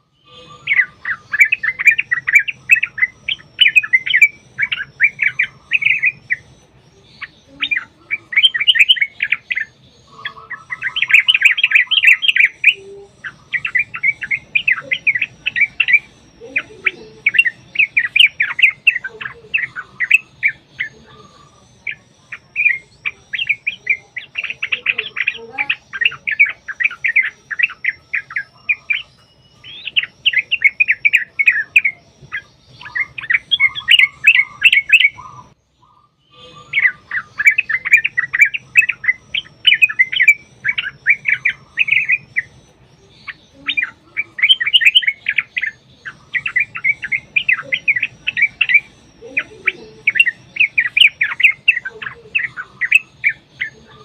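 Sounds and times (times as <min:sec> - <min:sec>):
bird singing chattering phrases: 0:00.0 - 0:54.0.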